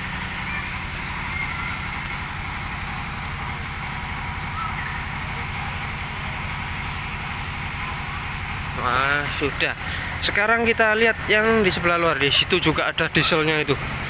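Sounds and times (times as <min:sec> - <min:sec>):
diesel generator running: 0:00.0 - 0:14.0.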